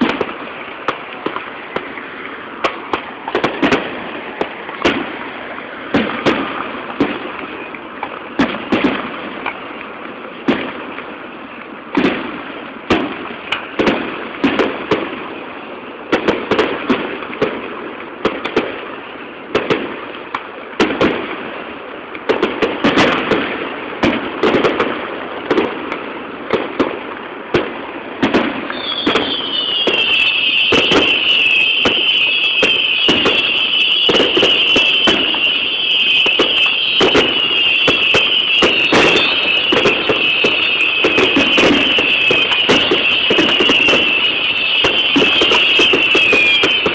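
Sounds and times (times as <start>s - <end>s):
firework bangs with crackle: 0.0s - 46.9s
high whistling of fireworks: 0.0s - 46.9s.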